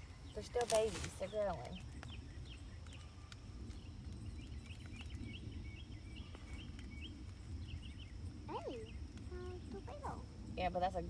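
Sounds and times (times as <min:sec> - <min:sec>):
birds chirping: 0:00.0 - 0:11.0
high insect drone: 0:00.0 - 0:11.0.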